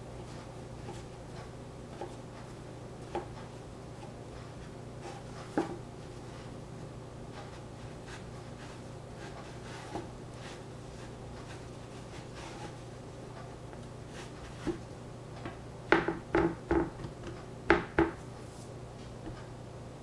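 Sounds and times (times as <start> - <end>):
steady low hum: 0.0 - 20.0
rustling and scraping: 0.1 - 15.5, 18.3 - 19.4.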